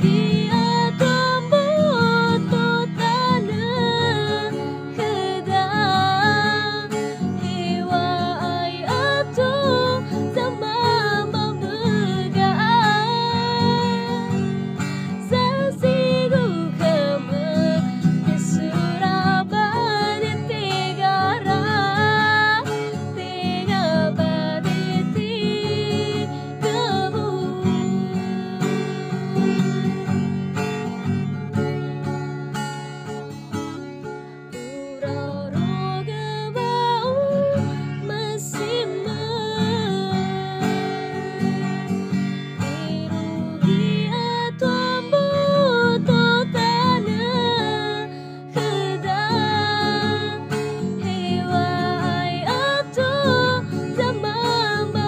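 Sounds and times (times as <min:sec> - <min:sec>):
woman singing: 0:00.0 - 0:31.2, 0:34.5 - 0:55.0
acoustic guitar: 0:00.0 - 0:55.0.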